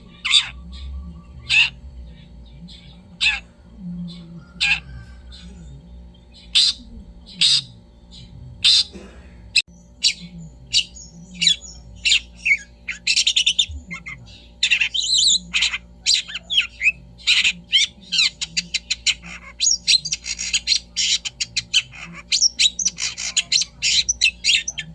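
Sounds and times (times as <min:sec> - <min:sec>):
shrike singing: 0:00.0 - 0:24.9.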